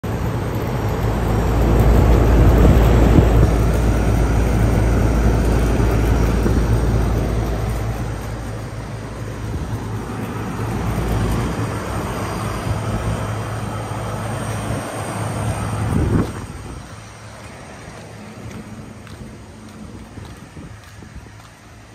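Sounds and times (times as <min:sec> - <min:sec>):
air conditioner fan rushing: 0:00.0 - 0:21.9
steady low hum: 0:00.0 - 0:21.9.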